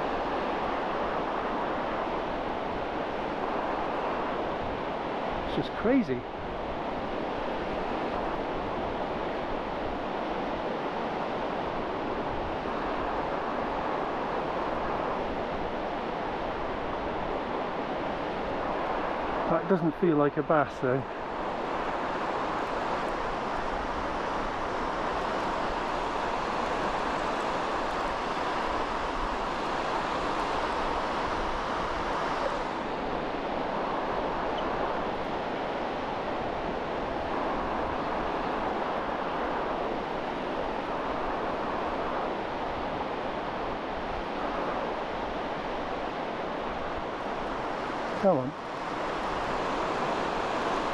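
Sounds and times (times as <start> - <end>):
distant surf breaking: 0.0 - 50.9.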